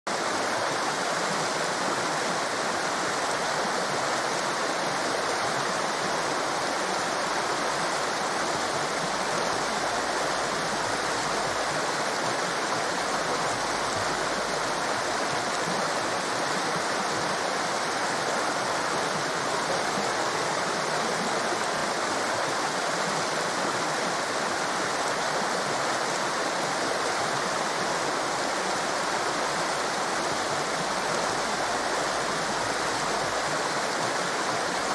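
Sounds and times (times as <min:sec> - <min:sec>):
rushing water roar: 0:00.1 - 0:34.9.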